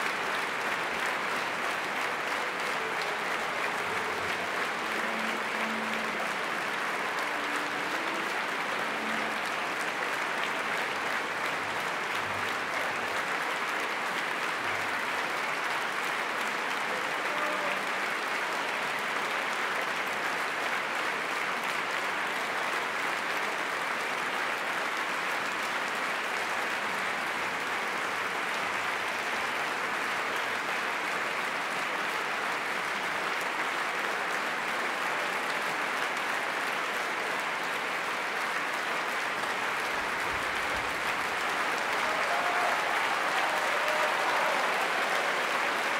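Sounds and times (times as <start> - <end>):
audience applauding: 0.0 - 45.9.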